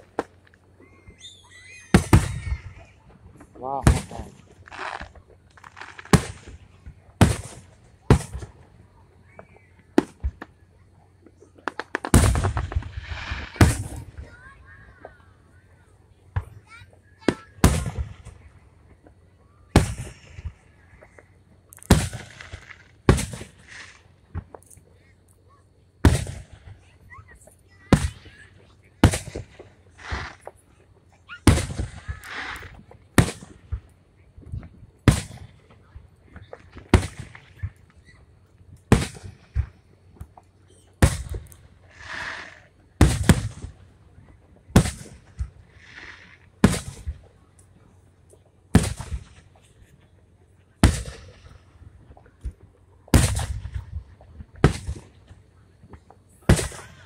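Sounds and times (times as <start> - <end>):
fireworks booming: 0.0 - 25.1, 26.0 - 50.0, 50.7 - 57.0.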